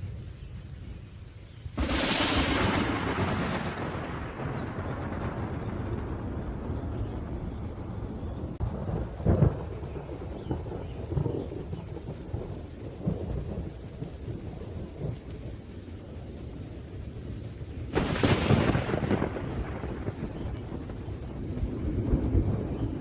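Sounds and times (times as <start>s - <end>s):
steady rain: 0.0s - 23.0s
crackling thunderclap: 1.7s - 23.0s
thunder rumbling: 1.7s - 23.0s.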